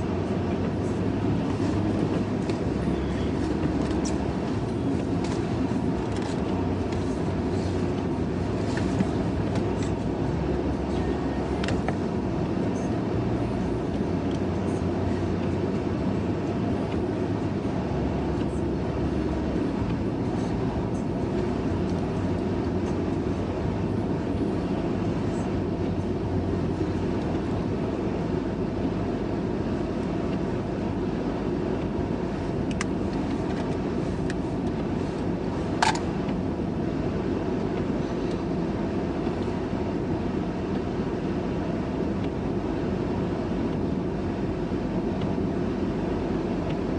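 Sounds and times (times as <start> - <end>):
moving vehicle rumble: 0.0 - 46.9.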